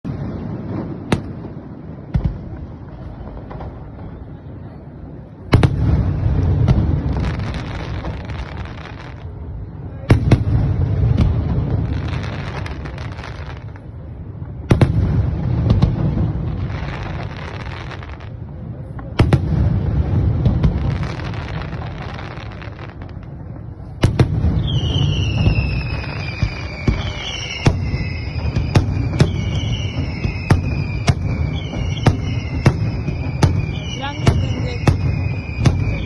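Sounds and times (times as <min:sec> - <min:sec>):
dense fireworks crackling: 0:00.0 - 0:36.0
fireworks bangs: 0:00.0 - 0:36.0.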